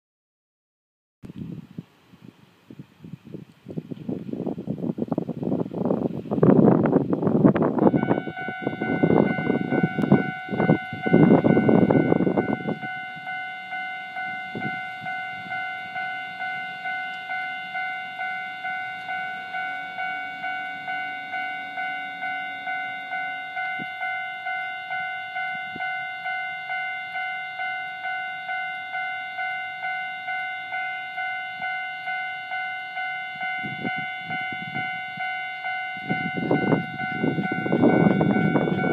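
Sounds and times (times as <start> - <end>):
level crossing warning bell: 7.8 - 38.9.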